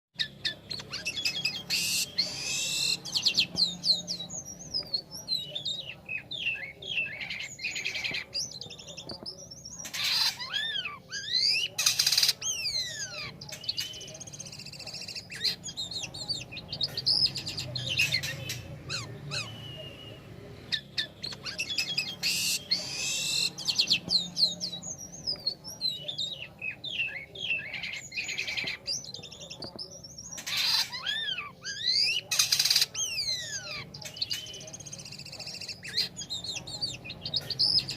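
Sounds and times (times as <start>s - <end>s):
starling singing: 0.2s - 37.9s.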